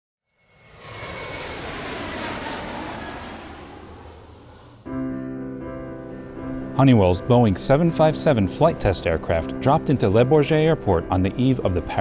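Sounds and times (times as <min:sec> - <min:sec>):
jet aircraft passing overhead: 0:00.3 - 0:12.0.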